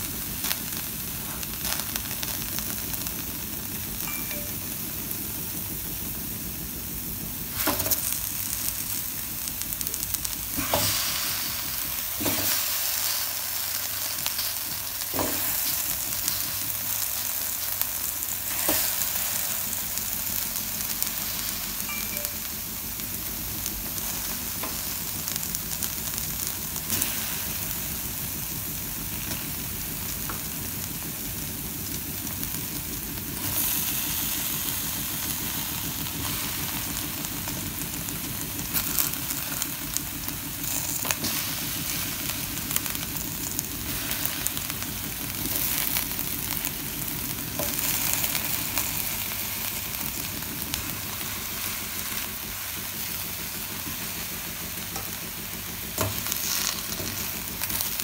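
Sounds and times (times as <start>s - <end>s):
fish and vegetables sizzling in pan: 0.0s - 58.0s.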